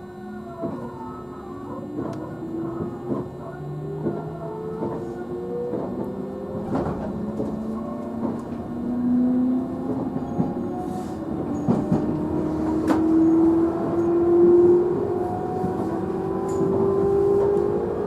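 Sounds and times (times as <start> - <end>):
train traction motors whining: 0.0 - 18.0.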